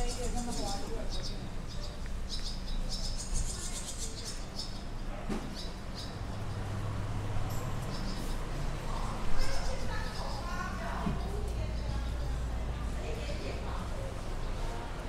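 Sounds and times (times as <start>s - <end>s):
small birds chirping: 0.0s - 12.6s
street background hum: 0.0s - 15.0s.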